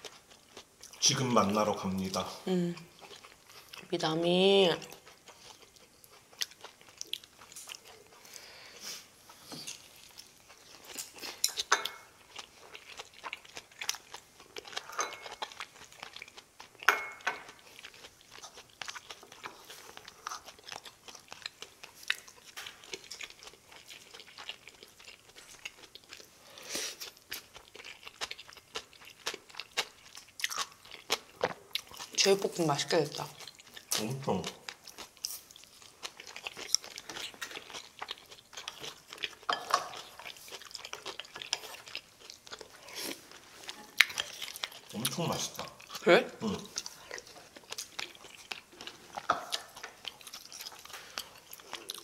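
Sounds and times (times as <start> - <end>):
person chewing and crunching food: 0.0 - 52.0.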